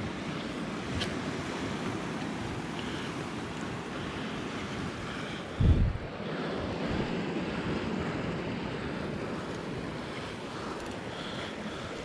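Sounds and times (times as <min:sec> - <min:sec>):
ocean surf on rocky shore: 0:00.0 - 0:12.0.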